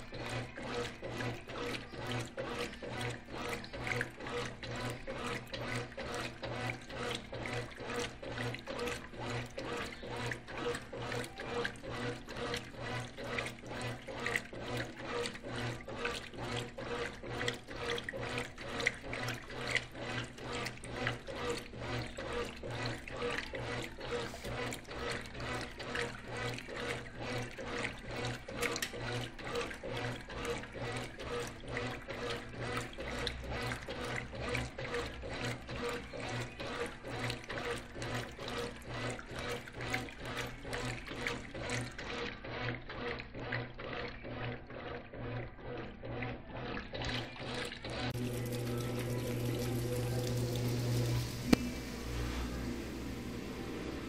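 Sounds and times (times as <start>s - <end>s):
low motor hum: 0.0s - 54.0s
water sloshing in washing machine: 0.0s - 54.0s.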